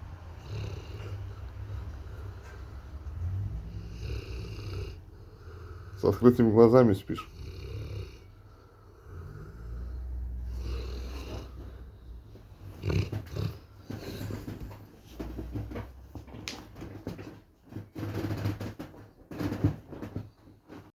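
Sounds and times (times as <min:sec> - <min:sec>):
dog snoring: 0:00.0 - 0:19.7.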